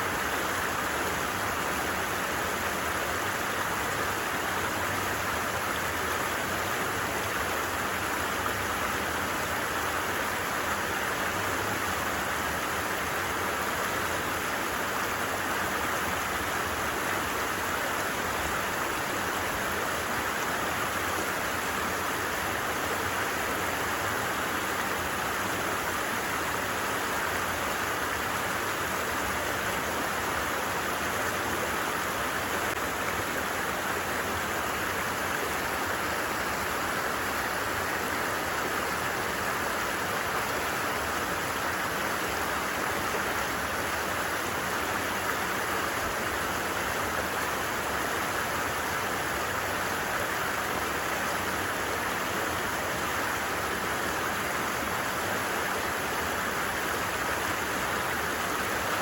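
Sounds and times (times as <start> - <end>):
stream flowing over stones: 0.0 - 59.0.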